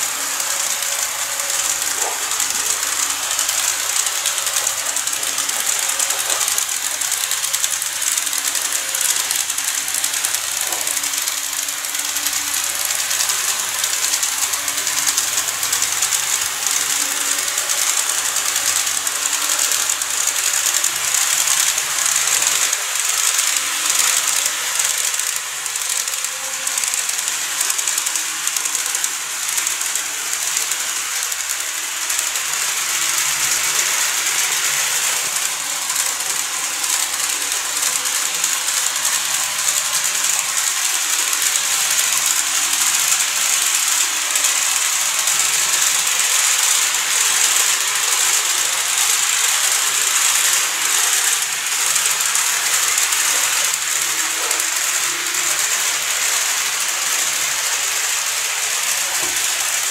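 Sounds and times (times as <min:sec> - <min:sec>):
model train rattling whir: 0:00.0 - 0:59.9.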